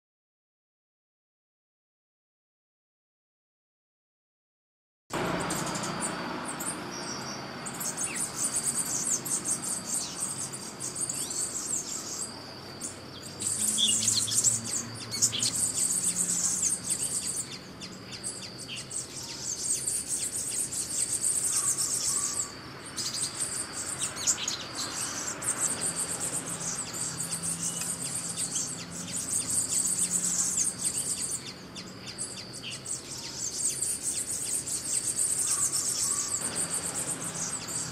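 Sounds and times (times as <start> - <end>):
high-pitched insect chorus buzzing: 5.2 - 37.9.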